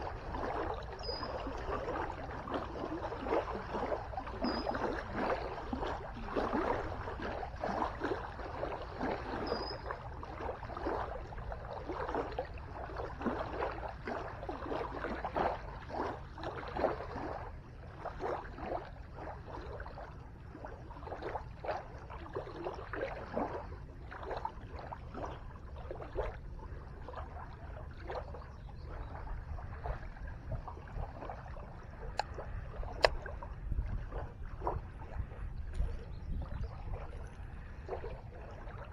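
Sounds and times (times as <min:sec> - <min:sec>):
low steady rumble: 0:00.0 - 0:38.9
small waves lapping on shore: 0:00.0 - 0:38.9.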